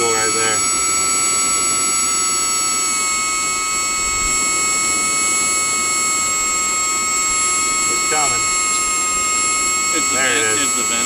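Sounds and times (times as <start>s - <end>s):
air in fuel line: 0.0s - 11.0s
miniature jet turbine whining: 0.0s - 11.0s.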